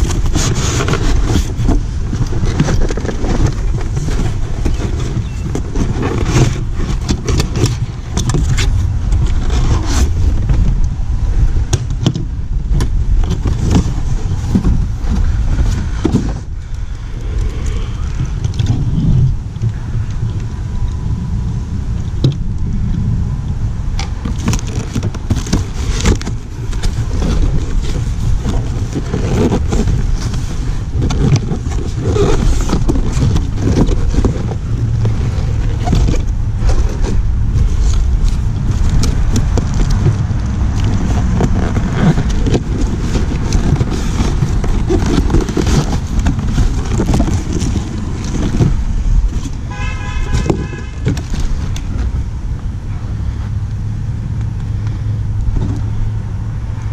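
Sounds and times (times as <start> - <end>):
cardboard boxes being handled: 0.0 - 20.1, 23.9 - 53.6
wind rumble on microphone: 0.0 - 56.9.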